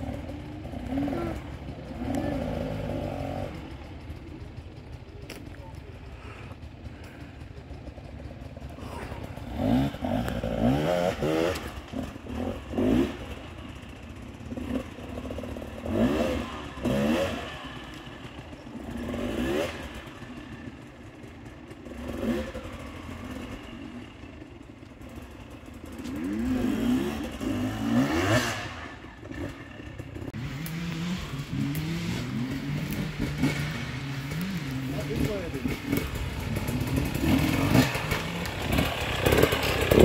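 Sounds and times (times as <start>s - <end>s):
dirt bike engine revving: 0.0s - 4.8s, 6.1s - 40.0s
motorbike engine running steadily: 0.0s - 40.0s.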